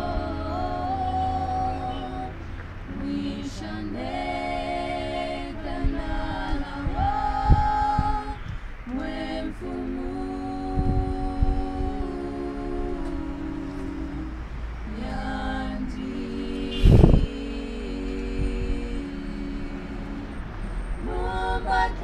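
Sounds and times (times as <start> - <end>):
women singing hymn a cappella: 0.0 - 22.0.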